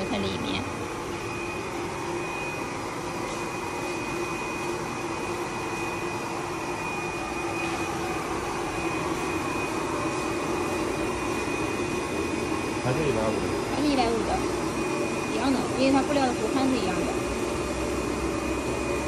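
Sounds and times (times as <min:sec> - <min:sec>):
welding machine line whirring: 0:00.0 - 0:19.0.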